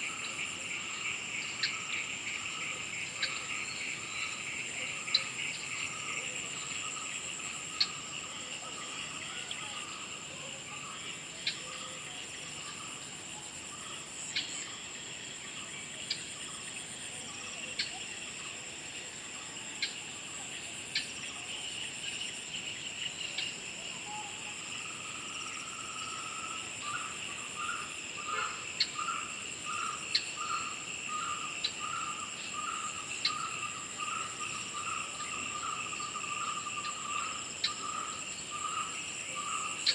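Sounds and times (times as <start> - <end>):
crickets trilling: 0.0 - 39.9
insects chirring: 0.0 - 39.9.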